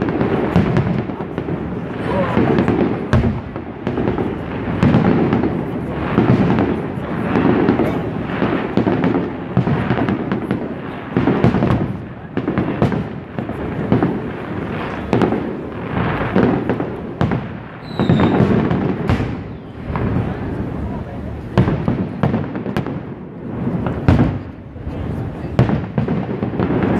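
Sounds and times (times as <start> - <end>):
firework booms: 0.0 - 26.9
firework crackles: 0.0 - 26.9.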